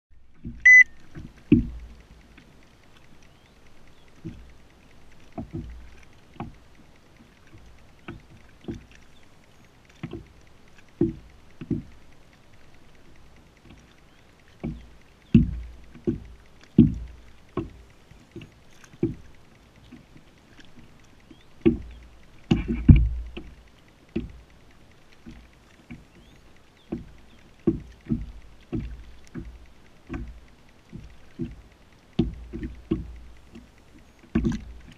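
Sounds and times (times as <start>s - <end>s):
waves slapping kayak hull: 0.2s - 34.9s.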